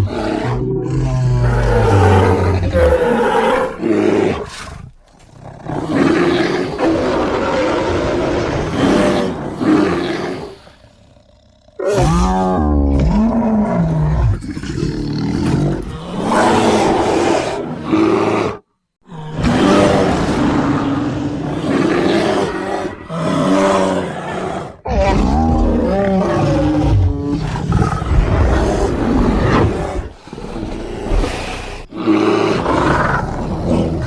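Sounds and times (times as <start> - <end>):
bear roars and growls: 0.0 - 34.0.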